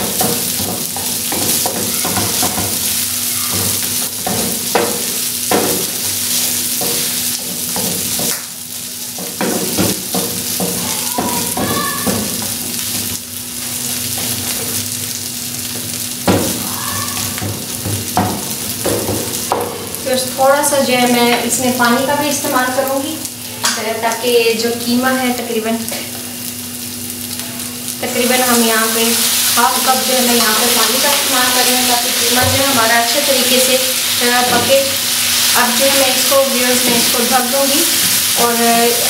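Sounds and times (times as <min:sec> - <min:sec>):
meat sizzling in oil: 0:00.0 - 0:39.0.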